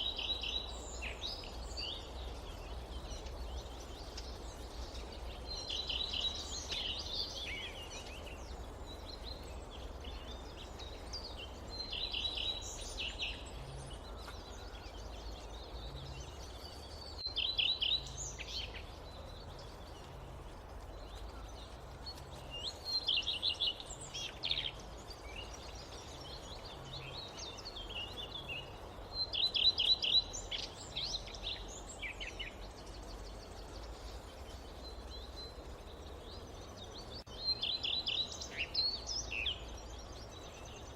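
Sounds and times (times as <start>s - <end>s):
birds twittering: 0.0s - 40.9s.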